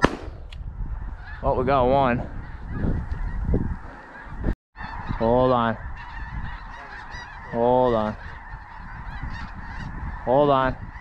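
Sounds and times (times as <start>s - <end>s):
geese chattering: 0.9s - 11.0s
wavering goose honk: 1.0s - 11.0s.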